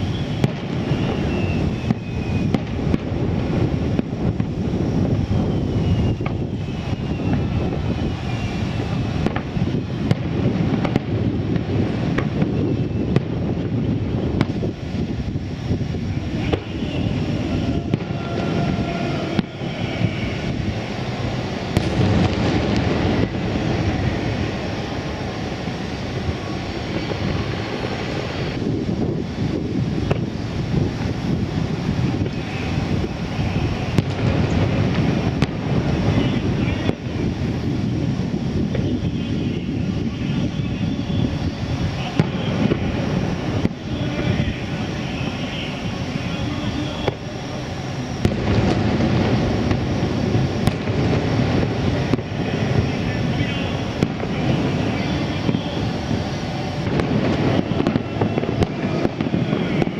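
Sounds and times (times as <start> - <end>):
distant fireworks rumbling booms: 0.0 - 59.9
fireworks sharp cracks: 0.0 - 59.9.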